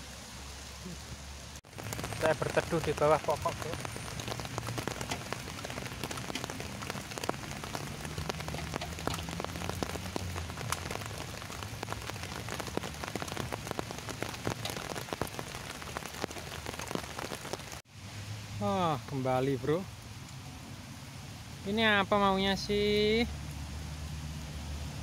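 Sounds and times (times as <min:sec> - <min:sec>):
raindrops landing close by: 0:00.0 - 0:25.0
steady rain: 0:00.0 - 0:25.0.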